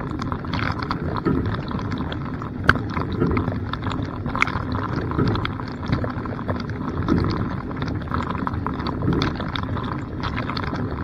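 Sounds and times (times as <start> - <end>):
dishwasher low rumble: 0.0 - 11.0.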